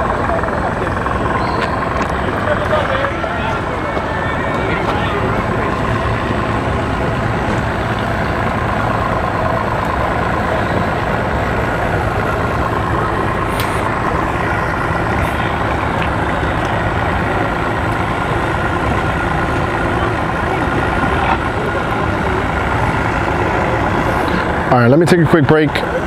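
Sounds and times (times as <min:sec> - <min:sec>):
outboard boat motors idling: 0:00.0 - 0:26.0.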